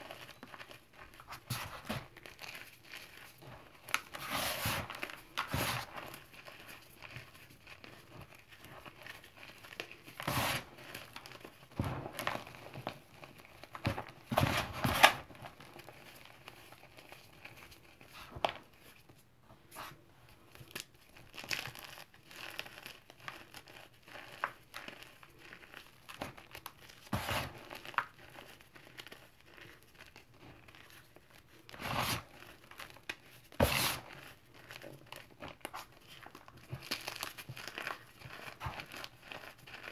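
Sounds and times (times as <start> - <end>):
hands crumbling chalk in a bowl: 0.0 - 19.2, 20.6 - 39.9.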